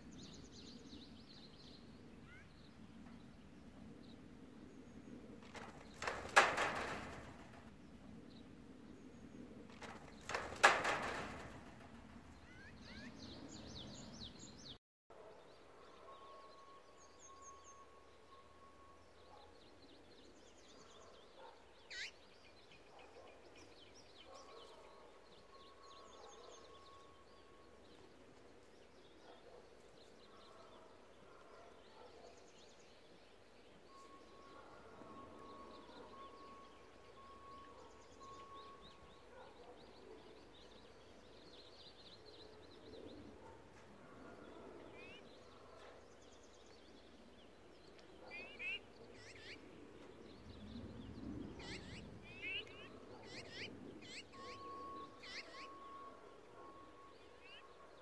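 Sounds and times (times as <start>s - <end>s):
small birds chirping: 0.0s - 14.8s, 19.1s - 33.1s, 33.7s - 57.9s.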